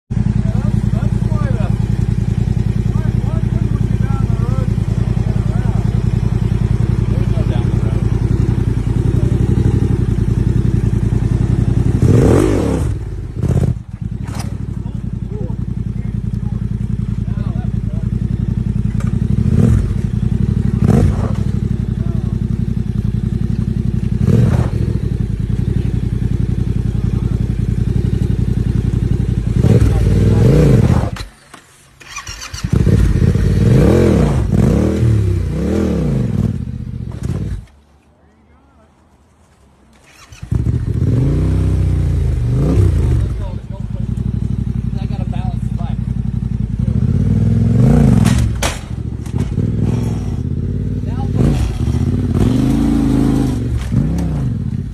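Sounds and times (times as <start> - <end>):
motorcycle engine idling and revving: 0.1 - 37.8, 39.5 - 54.9.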